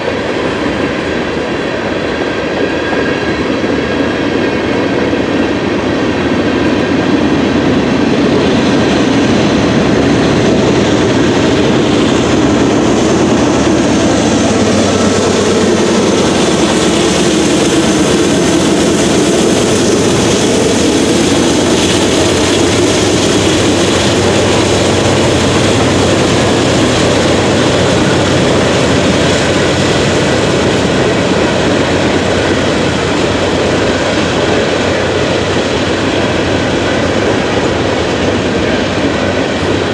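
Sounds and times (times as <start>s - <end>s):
railcar wheels rumbling on rails: 0.0s - 39.9s.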